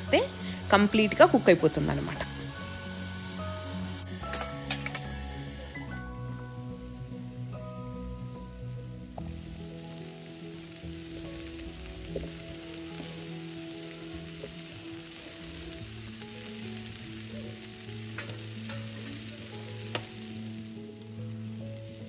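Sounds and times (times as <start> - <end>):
patties sizzling on a grill: 0.0 - 22.0.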